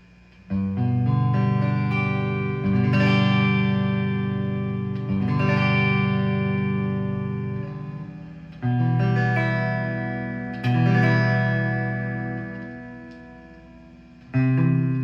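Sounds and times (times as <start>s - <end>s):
electric guitar chords strummed: 0.0s - 15.0s.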